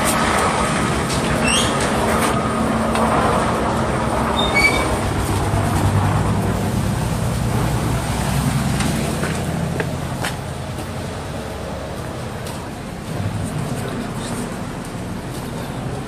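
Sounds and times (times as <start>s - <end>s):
concrete pump machine drone: 0.0s - 16.0s.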